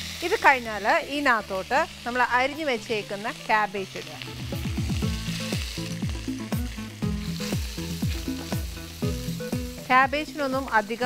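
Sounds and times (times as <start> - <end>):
background music: 0.0 - 11.0
cabbage sizzling in hot oil: 0.0 - 11.0.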